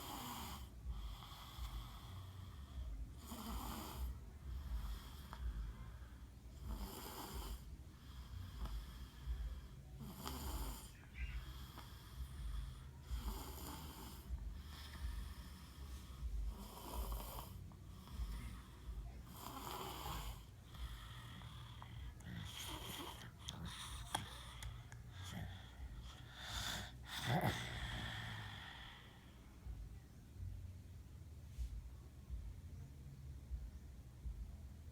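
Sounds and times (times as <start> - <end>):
boy snoring: 0.0 - 5.7, 6.5 - 29.2.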